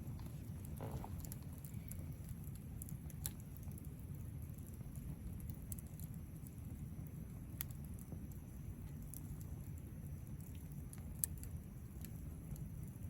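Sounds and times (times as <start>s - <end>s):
faint low rumble: 0.0s - 13.0s
wood fire crackling and popping: 0.0s - 13.0s.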